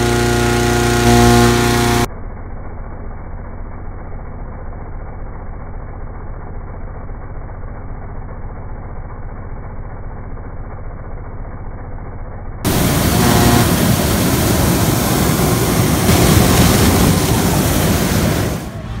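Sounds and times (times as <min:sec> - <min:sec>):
engine-driven fan running: 0:00.0 - 0:19.0.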